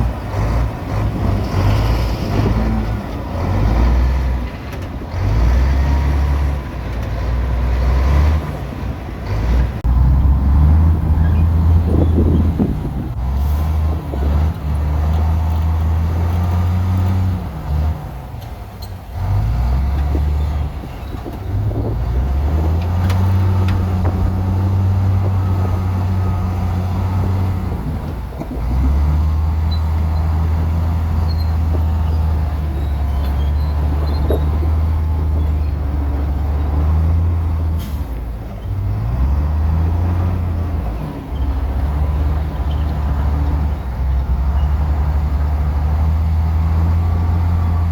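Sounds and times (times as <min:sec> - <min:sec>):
bulldozer diesel engine droning: 0:00.0 - 0:47.9.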